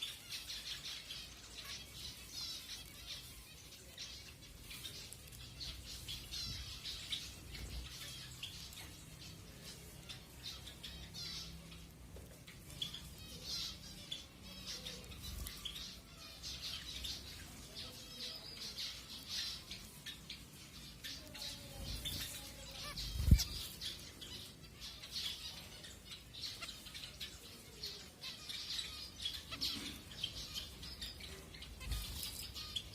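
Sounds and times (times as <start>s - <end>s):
finches beeping calls: 0.0s - 32.9s.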